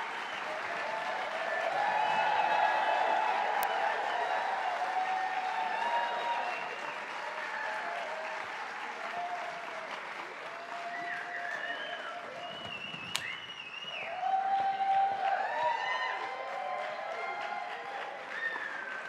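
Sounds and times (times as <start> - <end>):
audience applauding: 0.0 - 19.0
people cheering: 0.0 - 19.0.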